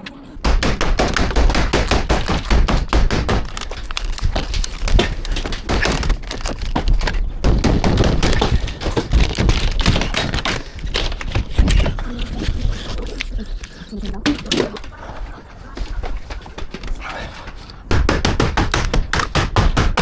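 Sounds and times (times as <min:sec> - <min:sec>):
roof sheeting cracking and snapping: 0:00.0 - 0:20.0.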